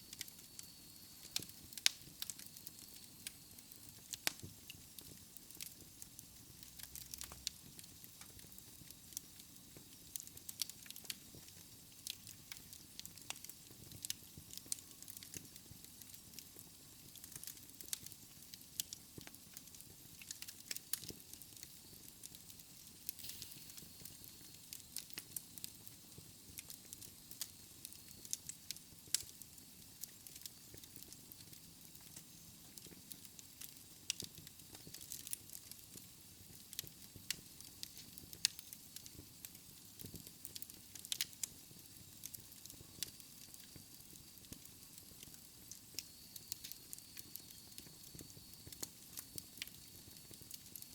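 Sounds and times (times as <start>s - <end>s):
fireplace fire crackling: 0.0s - 50.9s.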